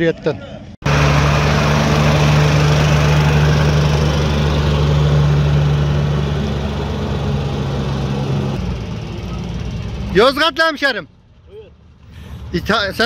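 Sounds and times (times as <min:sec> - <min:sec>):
diesel engine running: 0:00.8 - 0:13.0.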